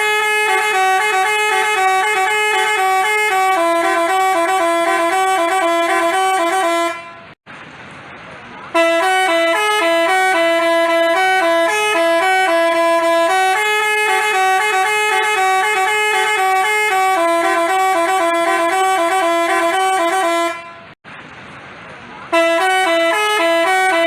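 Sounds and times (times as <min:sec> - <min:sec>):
musical bus horn melody: 0:00.0 - 0:07.4, 0:08.7 - 0:21.0, 0:22.3 - 0:24.0.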